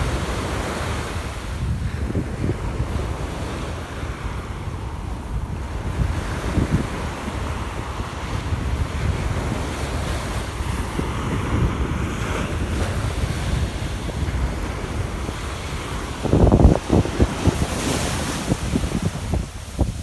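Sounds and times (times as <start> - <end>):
hissing wash of surf: 0.0 - 20.0
small waves breaking on beach: 0.0 - 20.0
wind buffeting microphone: 0.0 - 20.0.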